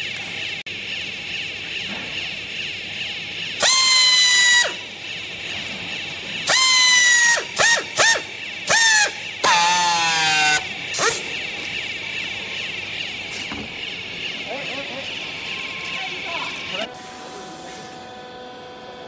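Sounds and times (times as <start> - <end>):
strapping tool motor whine: 0.0 - 19.0.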